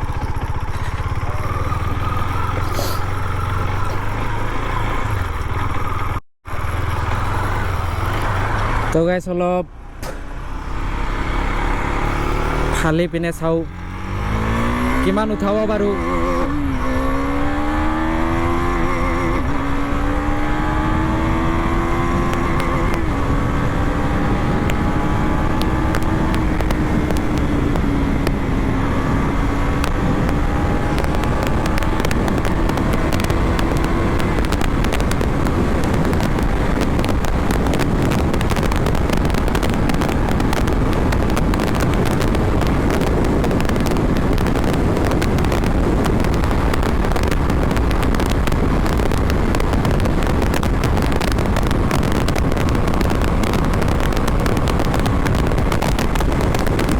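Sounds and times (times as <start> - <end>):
motorcycle engine accelerating: 0.0 - 56.9
wind rushing over microphone: 10.2 - 56.9.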